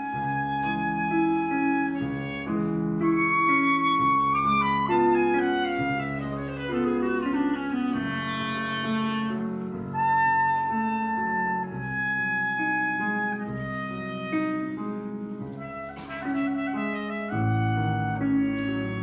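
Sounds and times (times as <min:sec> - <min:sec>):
clarinet melody: 0:00.0 - 0:19.0.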